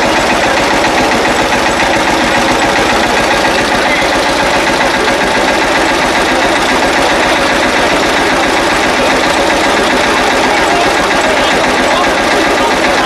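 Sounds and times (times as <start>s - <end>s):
engine running loud: 0.0s - 13.0s.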